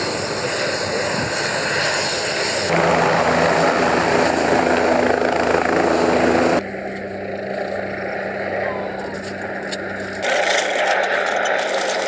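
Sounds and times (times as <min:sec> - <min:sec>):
helicopter engine and rotor blades: 0:00.0 - 0:12.0.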